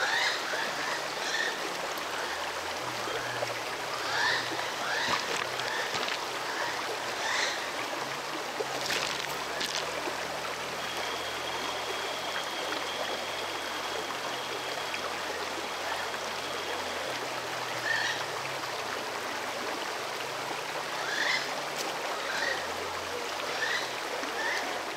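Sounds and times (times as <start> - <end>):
stream babbling over stones: 0.0 - 24.9.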